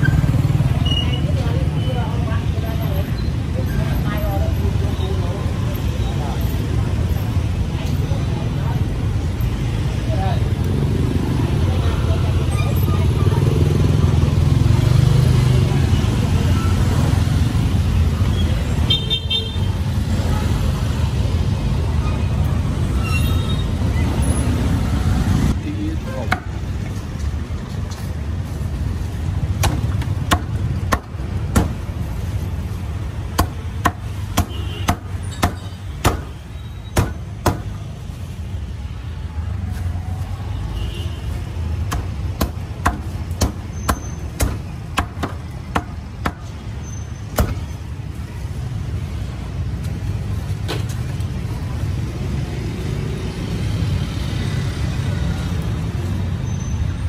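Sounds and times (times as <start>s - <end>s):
street traffic rumble: 0.0s - 57.0s.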